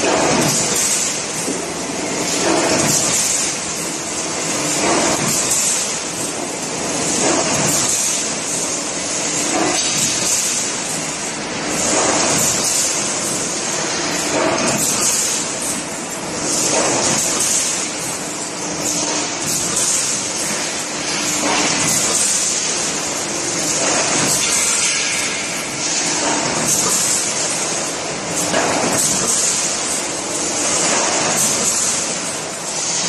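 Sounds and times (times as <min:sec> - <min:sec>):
machine hiss and rumble: 0:00.0 - 0:33.0.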